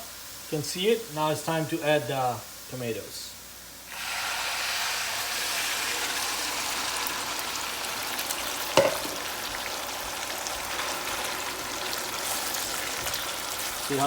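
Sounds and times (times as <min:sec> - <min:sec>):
tomatoes sizzling in hot oil: 0:00.0 - 0:14.0.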